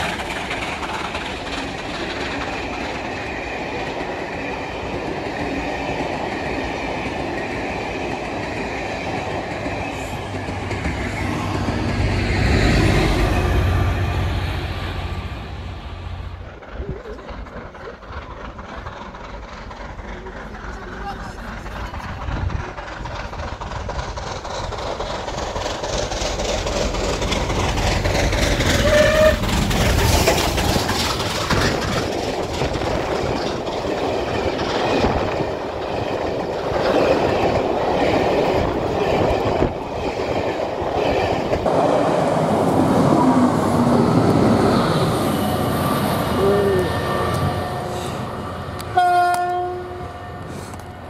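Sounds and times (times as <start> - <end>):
wheels clacking over rail joints: 0.0 - 12.8, 16.3 - 46.3
train rail rumble: 0.0 - 51.0.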